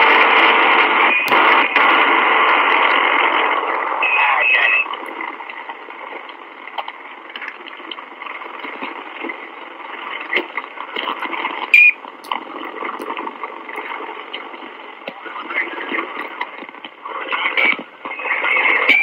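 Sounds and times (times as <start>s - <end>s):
radio hiss: 0.0s - 19.0s.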